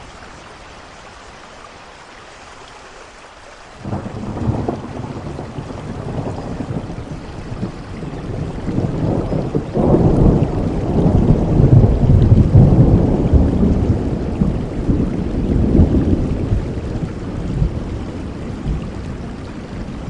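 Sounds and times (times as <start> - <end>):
steady rain: 0.0 - 20.0
thunder rolling: 3.8 - 20.0.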